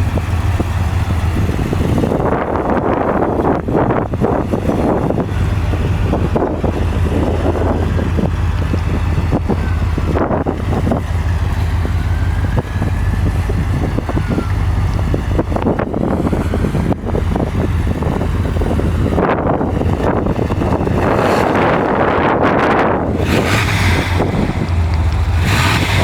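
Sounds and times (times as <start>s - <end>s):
engine running with low hum: 0.0s - 26.0s
wind buffeting microphone: 0.0s - 26.0s.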